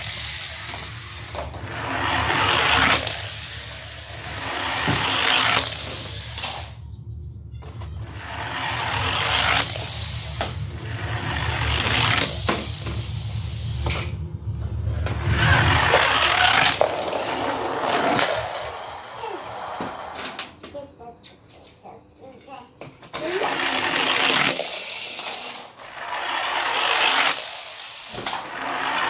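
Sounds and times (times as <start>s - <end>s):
toy cars clacking on wooden floor: 0.0s - 6.8s, 8.6s - 14.1s, 15.0s - 29.0s
toy cars rolling down a tube: 0.0s - 6.8s, 8.0s - 14.1s, 14.9s - 20.6s, 23.1s - 29.0s.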